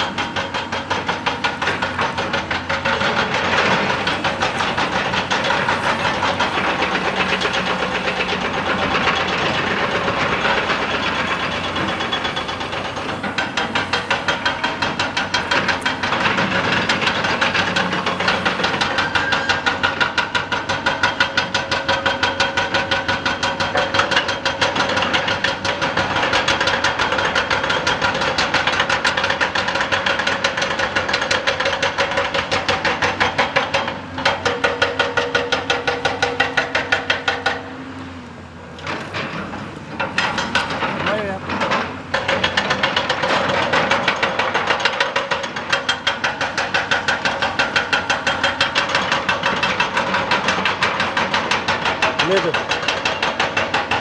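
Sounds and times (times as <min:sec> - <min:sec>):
hydraulic breaker hammering rock: 0:00.0 - 0:37.9, 0:38.7 - 0:54.0
excavator engine running: 0:00.0 - 0:54.0.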